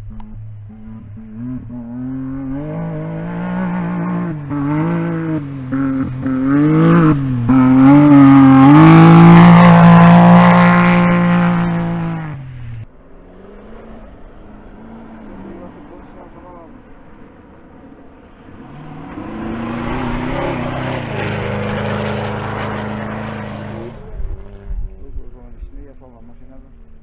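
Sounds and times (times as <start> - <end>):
buggy engine at full throttle: 0.0 - 27.0
distant engine: 0.0 - 27.0.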